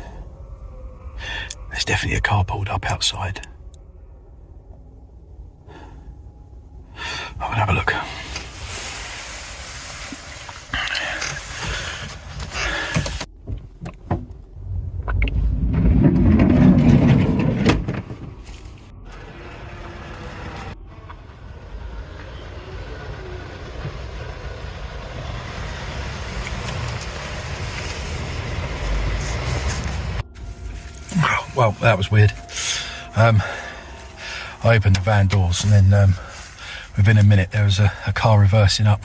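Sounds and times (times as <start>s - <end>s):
car engine running: 4.4s - 39.0s.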